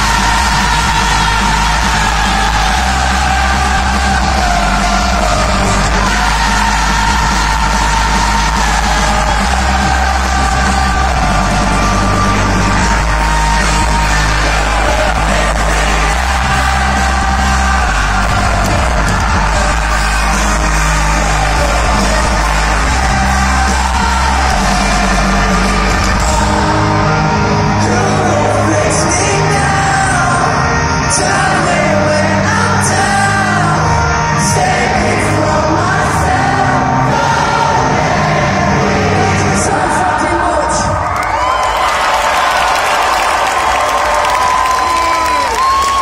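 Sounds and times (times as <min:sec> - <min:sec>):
person singing: 0:00.0 - 0:41.0
rock band playing loudly: 0:00.0 - 0:41.2.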